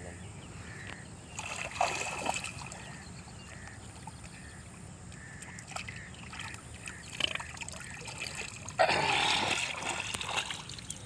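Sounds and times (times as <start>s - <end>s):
water splashing and trickling: 1.3s - 3.1s, 3.8s - 11.0s.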